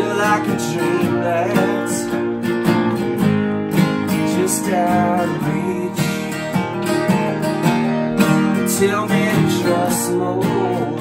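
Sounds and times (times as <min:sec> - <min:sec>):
acoustic guitars strumming: 0:00.0 - 0:11.0.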